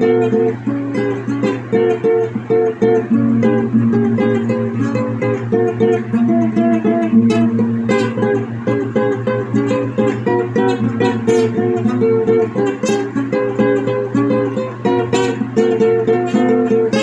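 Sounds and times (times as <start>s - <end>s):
plucked string instrument melody: 0.0s - 17.0s.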